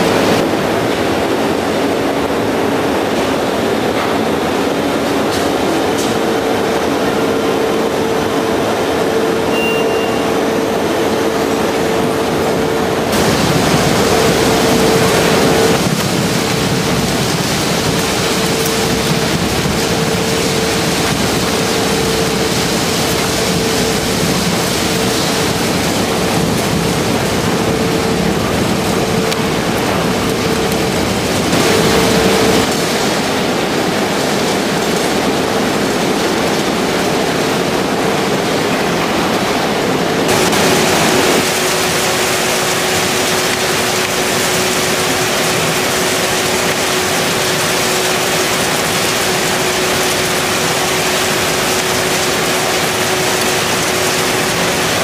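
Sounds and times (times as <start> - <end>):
recycling machinery running: 0.0 - 55.0.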